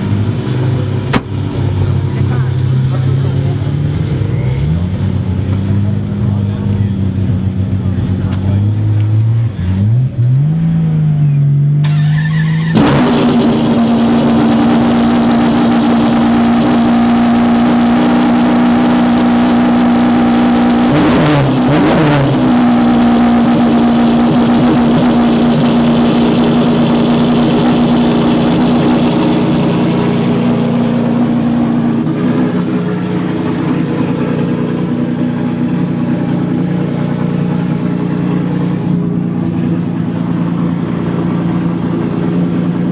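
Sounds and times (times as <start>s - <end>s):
loud car engine revving: 0.0s - 42.9s.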